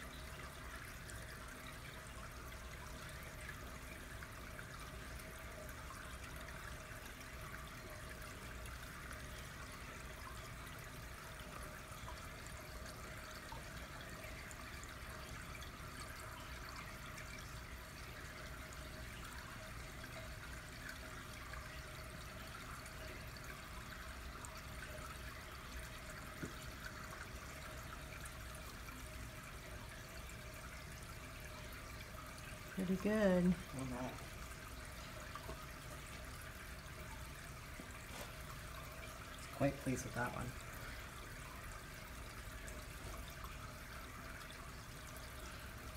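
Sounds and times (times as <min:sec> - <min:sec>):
faint steady hum: 0:00.0 - 0:45.9
water trickling through flume: 0:00.0 - 0:45.9.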